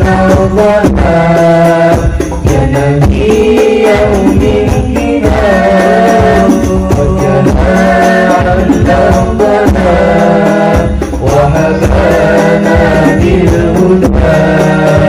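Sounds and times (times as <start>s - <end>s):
frame drums beating: 0.0s - 15.0s
men singing in unison: 0.0s - 15.0s.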